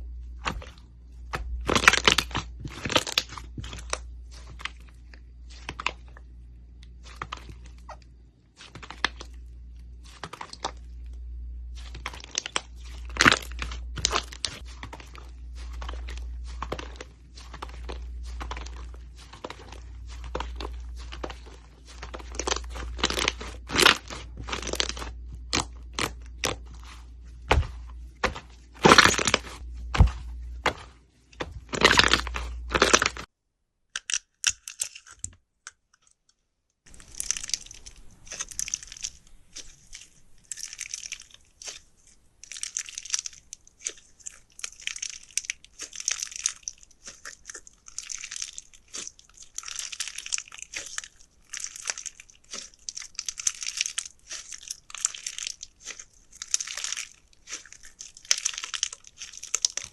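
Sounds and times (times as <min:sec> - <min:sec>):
low steady hum: 0:00.0 - 0:33.3, 0:36.9 - 0:59.9.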